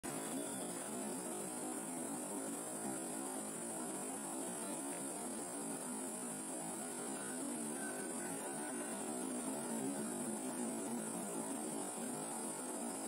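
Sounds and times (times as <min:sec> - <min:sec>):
thin high hiss: 0:00.0 - 0:13.0.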